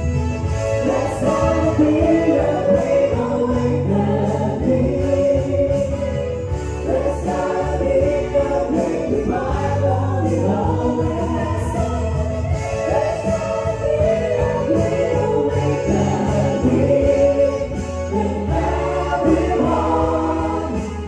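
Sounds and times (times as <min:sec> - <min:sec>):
electronic keyboard: 0:00.0 - 0:21.0
group singing a praise song: 0:00.8 - 0:21.0.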